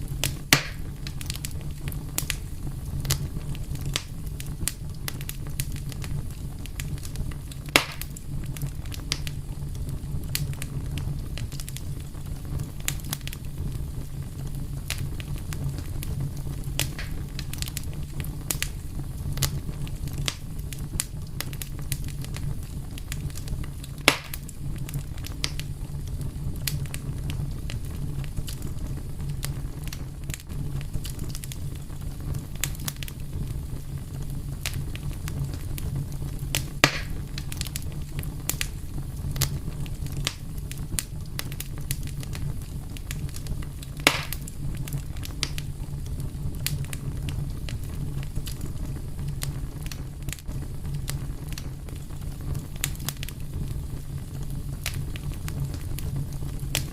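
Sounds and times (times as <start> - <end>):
fire crackles and pops: 0.0 - 56.9
wood fire burning: 0.0 - 56.9.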